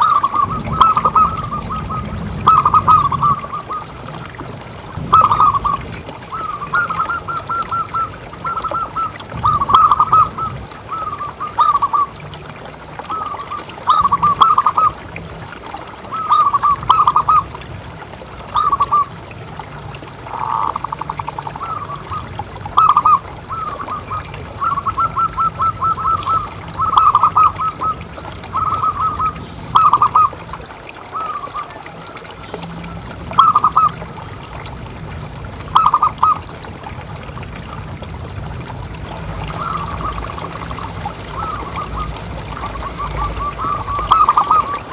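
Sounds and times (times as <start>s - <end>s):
doves cooing: 0.0s - 34.7s, 35.6s - 44.9s.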